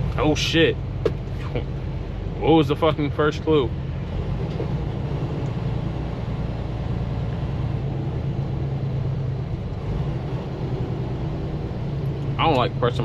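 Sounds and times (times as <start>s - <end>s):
road noise: 0.0s - 13.0s
truck diesel engine droning: 0.0s - 13.0s.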